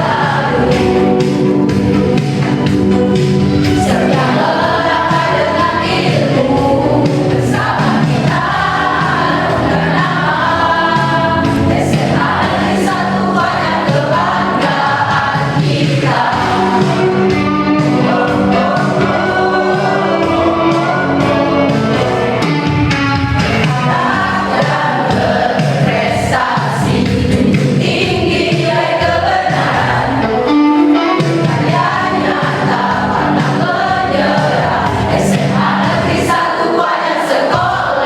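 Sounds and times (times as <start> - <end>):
choir singing: 0.0 - 22.5, 23.4 - 38.0.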